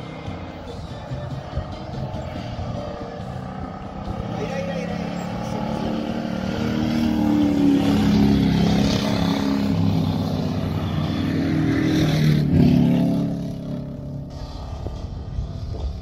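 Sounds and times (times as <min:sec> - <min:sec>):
race car engines at full throttle: 0:00.0 - 0:16.0.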